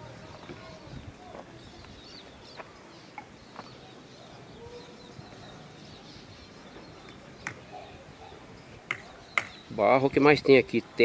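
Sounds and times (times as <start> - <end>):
faint birds chirping: 0.0 - 11.0
outdoor background noise: 0.0 - 11.0.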